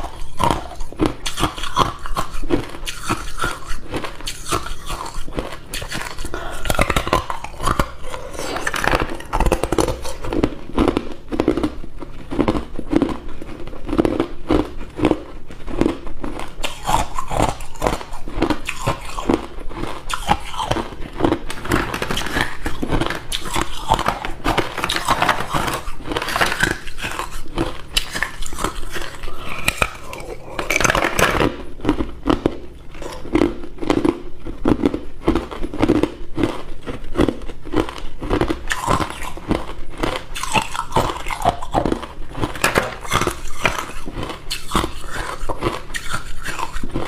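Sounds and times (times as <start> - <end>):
chewing ice cubes: 0.0 - 47.0.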